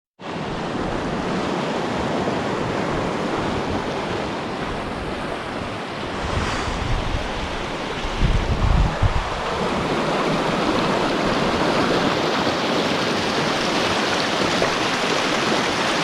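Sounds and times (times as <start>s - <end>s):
creek water rushing: 0.3s - 16.0s.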